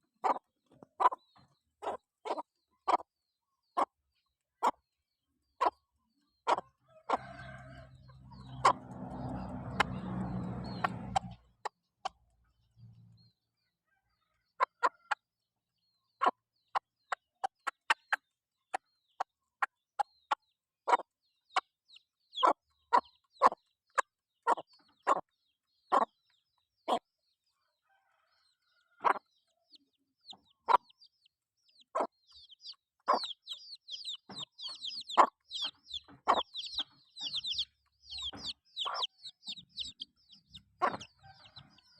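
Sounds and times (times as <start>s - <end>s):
chickens clucking: 0.0s - 13.3s, 14.2s - 15.3s, 16.0s - 41.9s.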